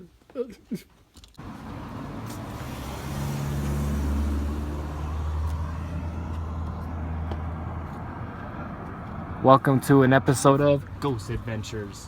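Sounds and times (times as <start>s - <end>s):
vehicle engine droning: 1.4s - 12.0s.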